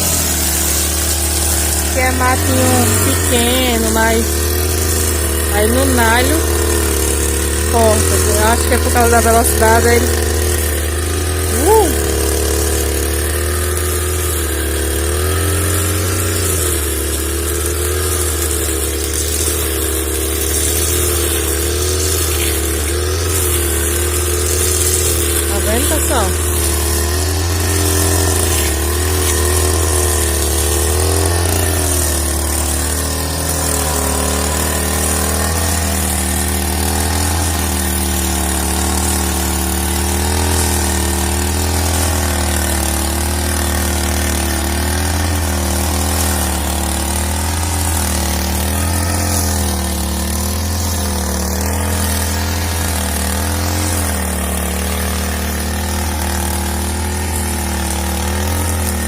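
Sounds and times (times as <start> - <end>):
string trimmer cutting weeds: 0.0 - 59.0.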